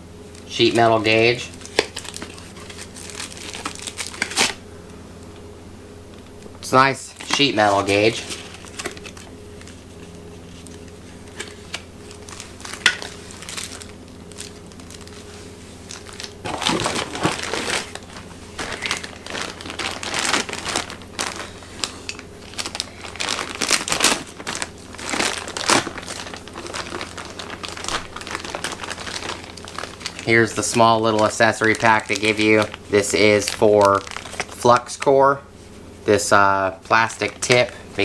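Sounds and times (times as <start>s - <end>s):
packaging crinkling: 0.3s - 4.6s, 7.1s - 35.4s, 36.1s - 38.0s.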